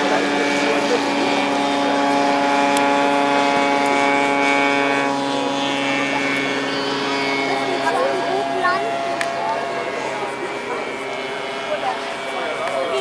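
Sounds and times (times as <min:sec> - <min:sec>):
model plane engine buzzing: 0:00.0 - 0:13.0.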